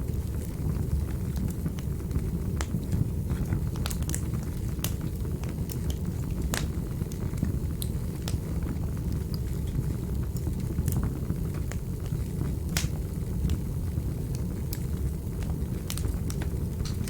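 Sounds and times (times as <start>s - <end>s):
low roar of flames: 0.0s - 17.0s
wood fire crackling: 0.0s - 17.0s.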